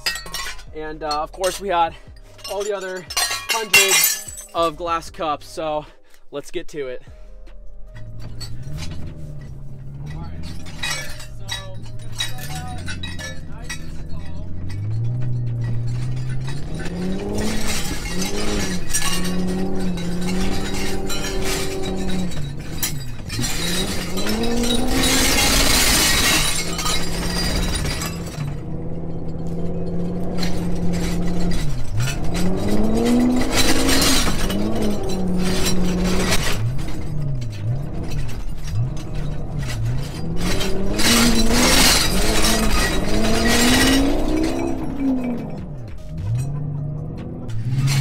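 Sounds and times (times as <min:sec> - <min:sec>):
glassware rattling: 0:00.0 - 0:04.8, 0:08.0 - 0:46.9
glass smashing and shattering: 0:00.0 - 0:05.2, 0:08.0 - 0:48.0
car engine revving: 0:07.9 - 0:48.0.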